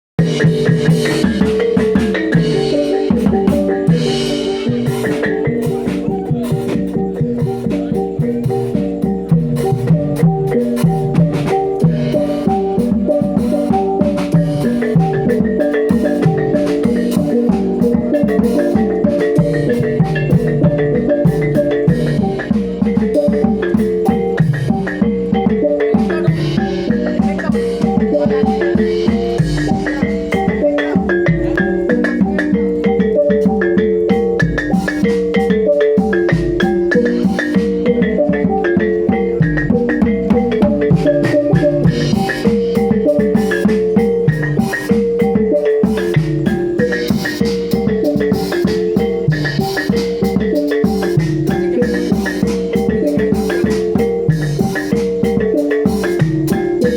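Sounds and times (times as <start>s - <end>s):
gamelan metal keys and gongs: 0.2s - 56.9s
hand drums beating: 0.2s - 56.9s
tuned metal percussion notes: 0.2s - 56.9s.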